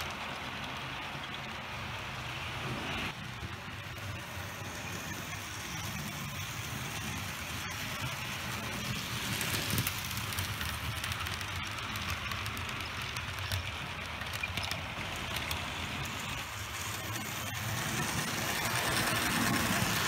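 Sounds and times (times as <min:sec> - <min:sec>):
wheels rattling on rails: 0:00.0 - 0:20.0
model train motor hum: 0:03.1 - 0:20.0.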